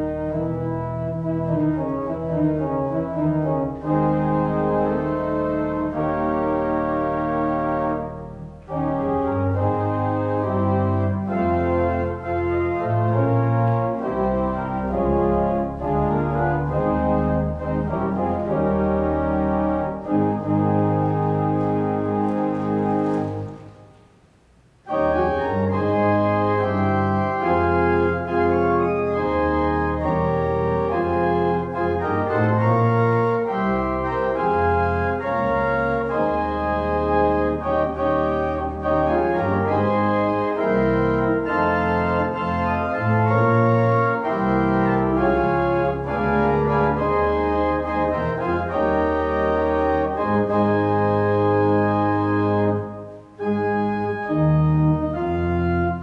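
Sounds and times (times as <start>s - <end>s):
organ playing sustained chords: 0.0s - 24.1s, 24.8s - 56.0s.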